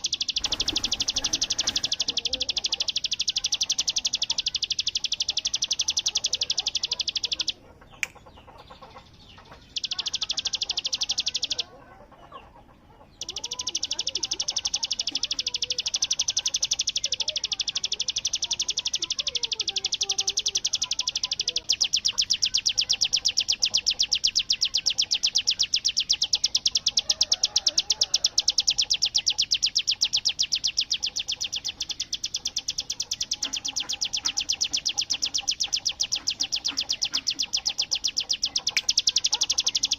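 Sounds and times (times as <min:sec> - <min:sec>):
bird rapid rattling song: 0:00.0 - 0:39.9.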